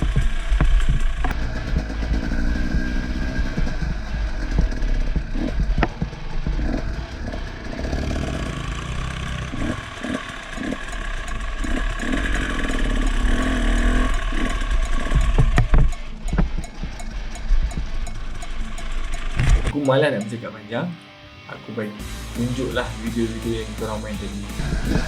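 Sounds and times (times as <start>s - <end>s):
dirt bike engine revving: 0.0s - 20.0s, 22.0s - 25.0s.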